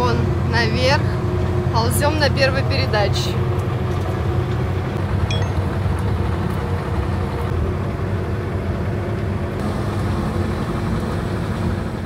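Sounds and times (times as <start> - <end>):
bus engine labouring: 0.0 - 12.0.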